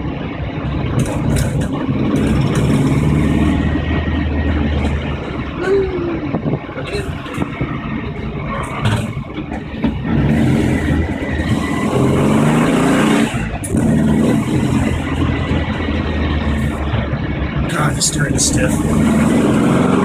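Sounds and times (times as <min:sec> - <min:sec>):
car engine pulling: 0:00.0 - 0:20.0.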